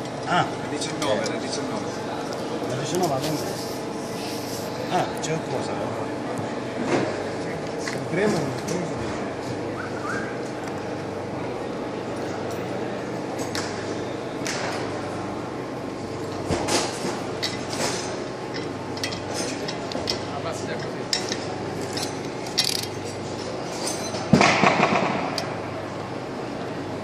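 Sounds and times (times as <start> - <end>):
steady background noise: 0.0 - 27.0.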